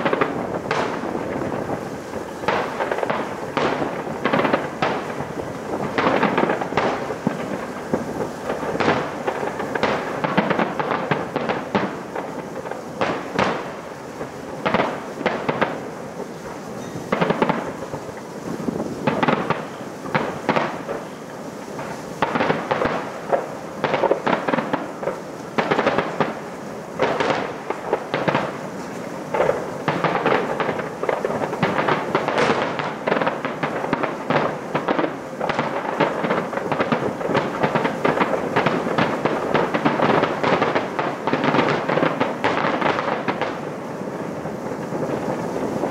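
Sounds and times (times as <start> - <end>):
firework bangs: 0.0 - 45.9
firework crackling: 0.0 - 45.9.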